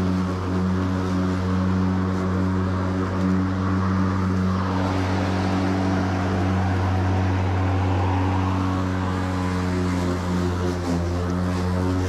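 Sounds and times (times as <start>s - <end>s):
lawn mower humming: 0.0s - 12.0s.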